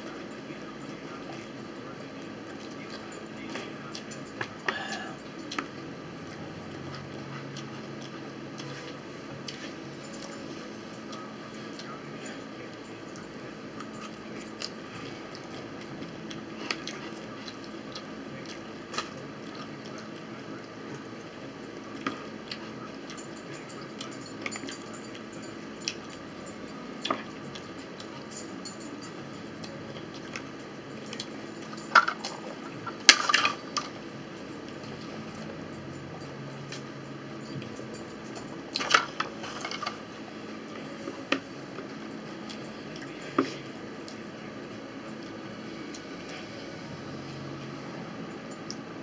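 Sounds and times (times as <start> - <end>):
chewing: 0.1 - 44.3.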